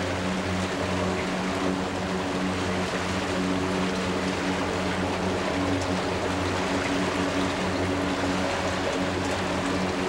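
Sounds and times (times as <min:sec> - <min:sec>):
boat engine running: 0:00.0 - 0:10.0
water splashing along hull: 0:00.0 - 0:10.0.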